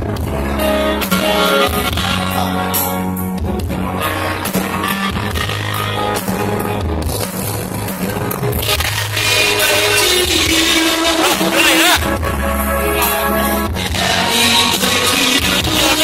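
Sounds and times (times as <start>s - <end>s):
loud dance music with singing: 0.0s - 16.0s.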